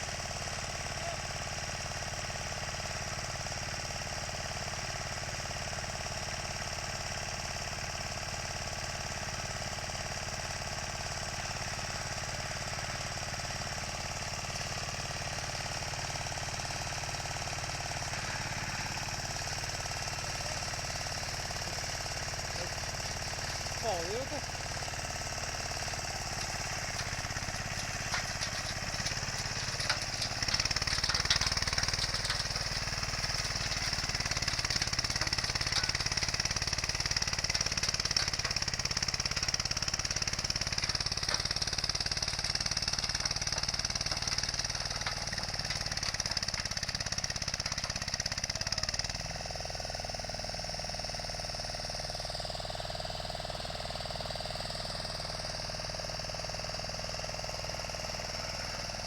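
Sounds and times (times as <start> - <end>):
small tractor engine running: 0.0 - 59.0.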